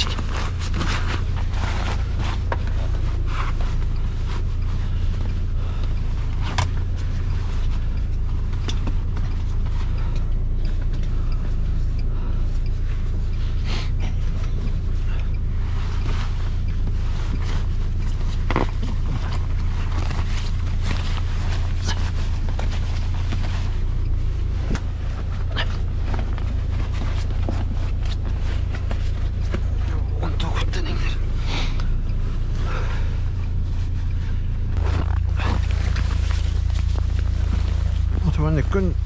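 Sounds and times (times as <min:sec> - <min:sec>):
car engine running: 0:00.0 - 0:39.0.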